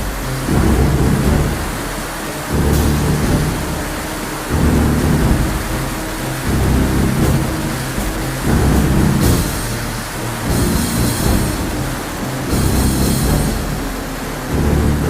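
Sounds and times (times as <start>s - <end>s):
heavy low rumble: 0.0s - 15.0s
steady hiss: 0.0s - 15.0s.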